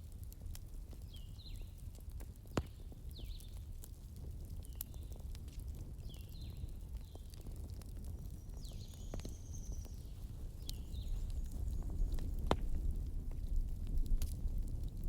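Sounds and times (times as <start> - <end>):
fire popping: 0.0 - 15.0
low rumble of flames: 0.0 - 15.0
wood fire crackling: 0.0 - 15.0.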